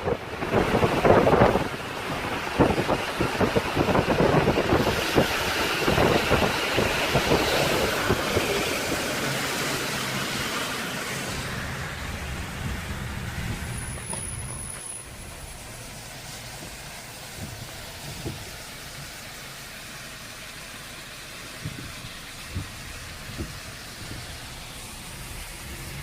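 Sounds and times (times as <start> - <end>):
wind buffeting microphone: 0.0 - 19.2, 21.5 - 26.0
low vehicle engine hum: 0.0 - 26.0
road noise: 0.0 - 26.0.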